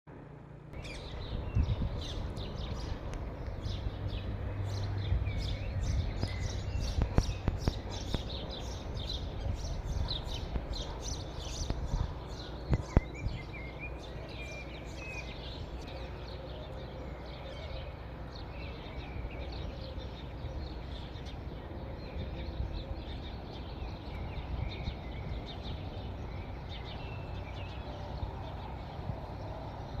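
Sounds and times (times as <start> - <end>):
low steady rumble: 0.1 - 30.0
small birds chirping: 0.7 - 30.0.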